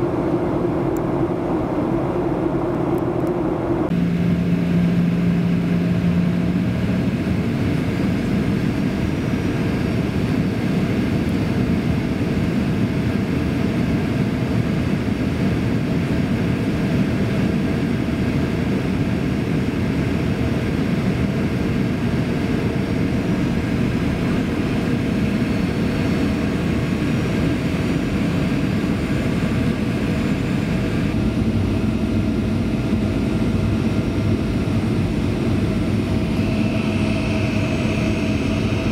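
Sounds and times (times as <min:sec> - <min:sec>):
aircraft engine and airflow roar: 0:00.0 - 0:38.9.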